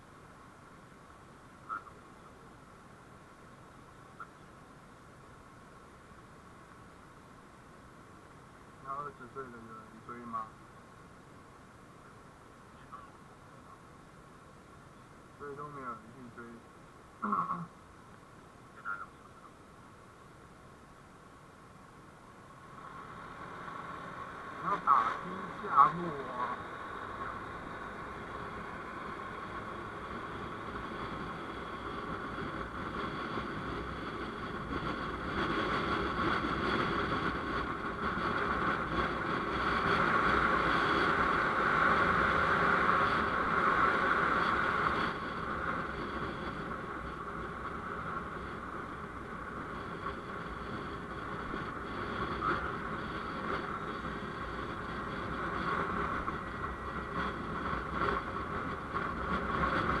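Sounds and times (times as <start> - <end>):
vehicle and road noise: 0.0 - 60.0.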